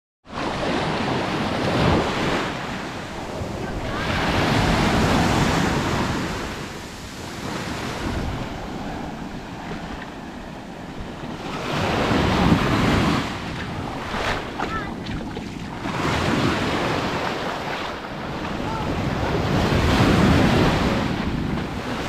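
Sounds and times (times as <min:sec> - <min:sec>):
ocean waves breaking on sand: 0:00.3 - 0:22.0.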